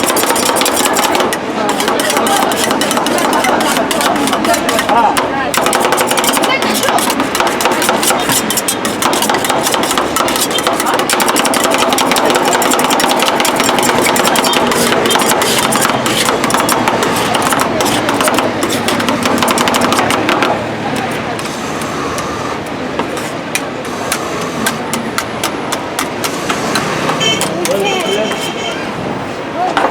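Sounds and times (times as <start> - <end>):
metal spatulas chopping on steel: 0.0 - 22.3, 23.0 - 28.8.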